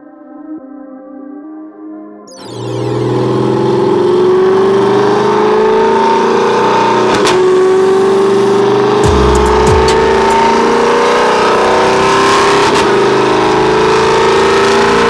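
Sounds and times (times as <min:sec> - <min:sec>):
truck engine revving under load: 0:02.7 - 0:15.0.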